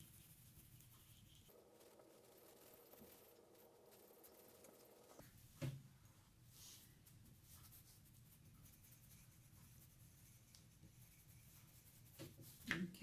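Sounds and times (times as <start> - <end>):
pencils scratching on paper: 0.0 - 5.2, 7.3 - 13.0.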